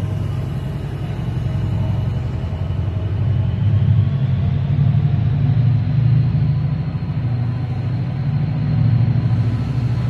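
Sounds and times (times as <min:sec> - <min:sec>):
diesel locomotive engine drone: 0:00.0 - 0:10.0
train coaches rumbling on track: 0:00.0 - 0:10.0.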